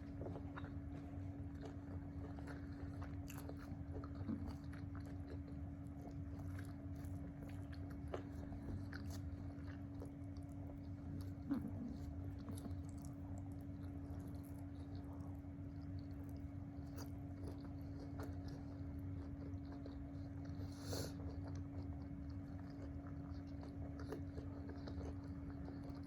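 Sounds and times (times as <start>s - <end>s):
mouth clicks and crunches: 0.0s - 26.0s
person chewing food: 0.0s - 26.0s
steady low hum: 0.0s - 26.0s.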